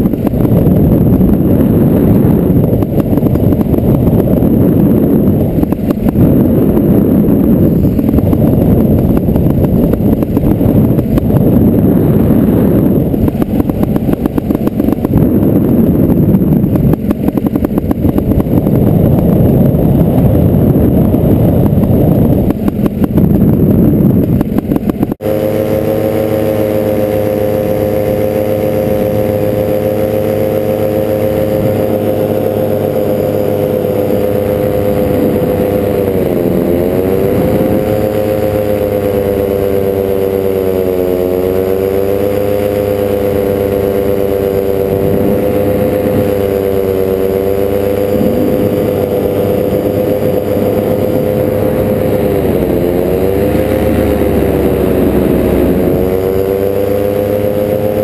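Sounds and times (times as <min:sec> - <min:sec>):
paramotor engine drone: 0:00.0 - 0:58.0
wind buffeting on microphone: 0:00.0 - 0:58.0.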